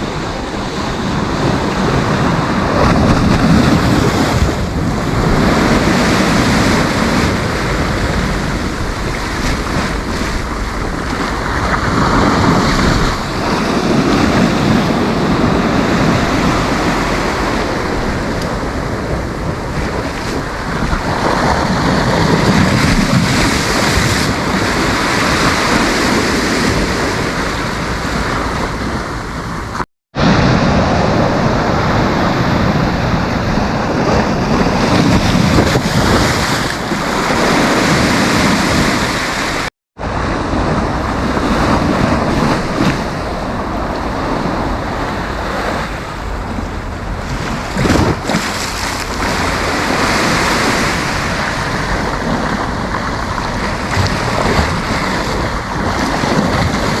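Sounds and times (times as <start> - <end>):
sea waves breaking on beach: 0.0 - 57.0
wind rumbling on microphone: 0.0 - 57.0.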